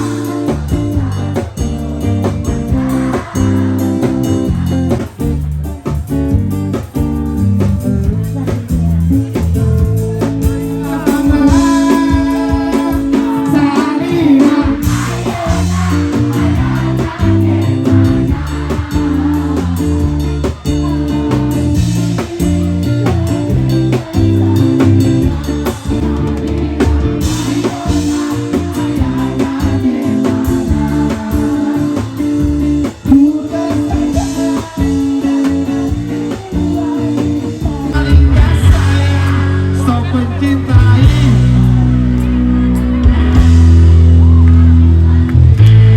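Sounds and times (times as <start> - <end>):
person singing: 0.0 - 5.2, 8.1 - 43.4
bass: 0.0 - 45.9
drums: 0.0 - 45.9
guitar: 0.0 - 45.9.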